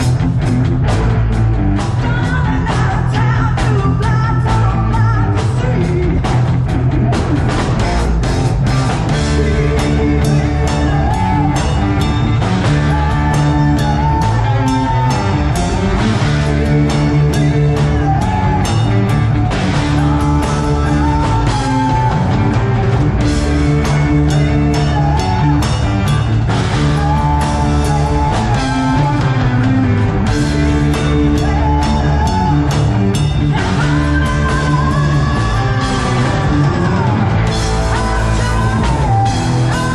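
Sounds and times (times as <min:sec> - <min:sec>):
drum kit beat: 0:00.0 - 0:39.9
electric guitar and bass chords: 0:00.0 - 0:39.9.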